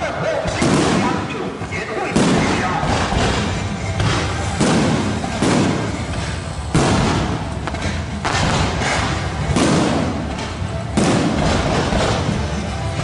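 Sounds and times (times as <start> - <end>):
fireworks crackling: 0.0 - 13.0
fireworks bangs: 0.4 - 1.4, 2.0 - 12.7.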